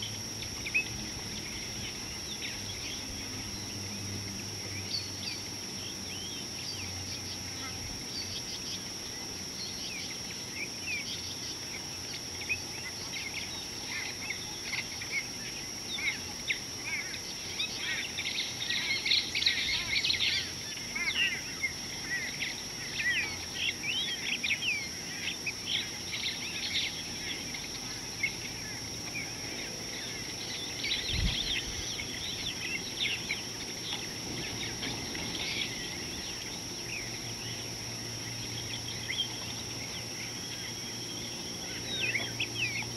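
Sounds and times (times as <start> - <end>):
birds chirping: 0.0 - 42.9
high-pitched insect whine: 0.0 - 42.9.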